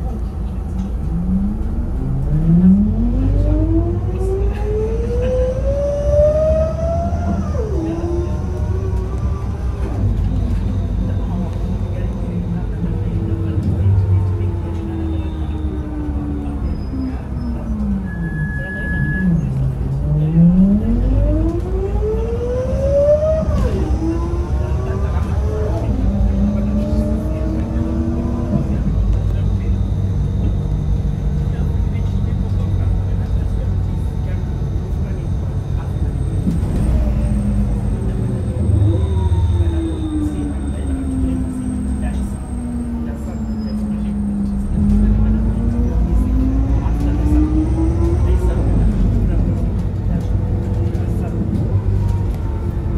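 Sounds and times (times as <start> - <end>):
bus transmission whining: 0.0 - 52.9
low engine rumble: 0.0 - 52.9.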